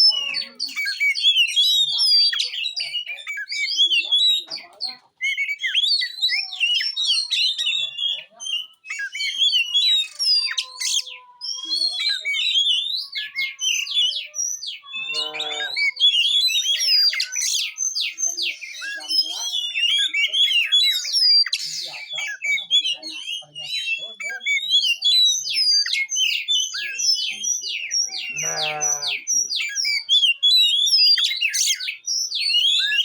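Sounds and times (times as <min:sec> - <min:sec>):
songbird singing varied whistles: 0:05.2 - 0:33.0.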